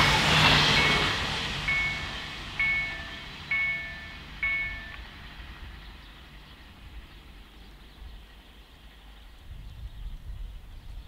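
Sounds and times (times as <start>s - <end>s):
diesel train rumbling away: 0.0s - 11.0s.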